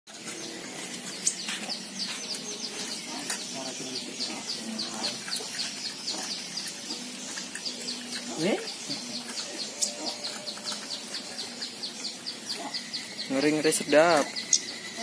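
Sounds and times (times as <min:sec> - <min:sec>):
sunbird chirping: 0:00.1 - 0:15.0.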